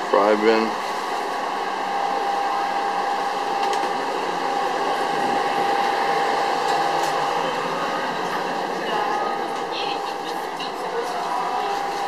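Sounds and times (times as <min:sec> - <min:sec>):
ventilation fans whirring: 0:00.0 - 0:12.0.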